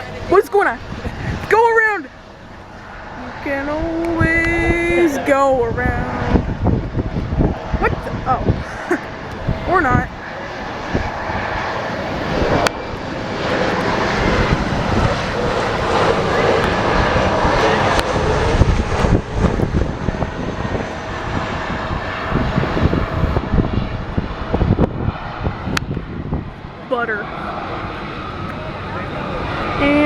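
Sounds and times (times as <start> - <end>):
airplane engine passing: 0.0 - 30.0
wind buffeting microphone: 0.0 - 30.0.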